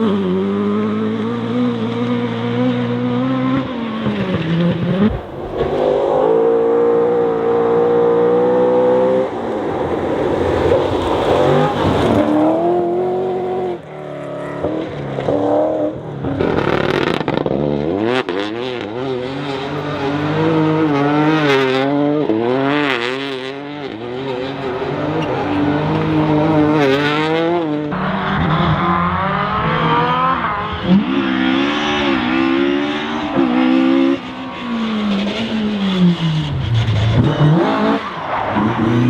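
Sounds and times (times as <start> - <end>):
rally car engines at full throttle: 0.0 - 39.0.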